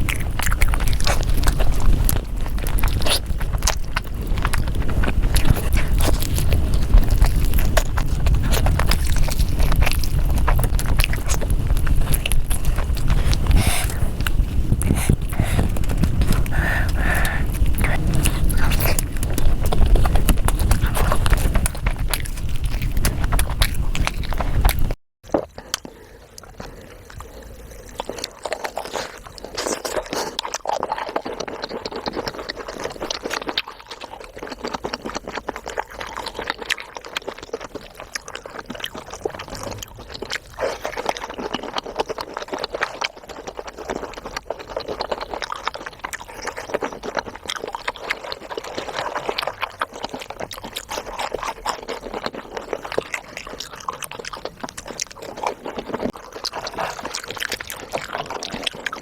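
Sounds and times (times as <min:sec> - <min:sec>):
wet chewing and mouth smacking: 0:00.0 - 0:59.0.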